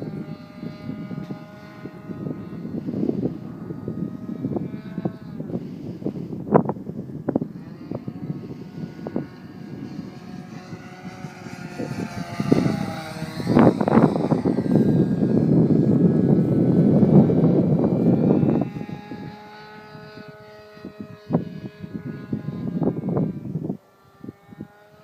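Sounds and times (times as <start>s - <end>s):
model airplane engine flying past: 0.0s - 25.0s
wind buffeting microphone: 0.0s - 25.0s.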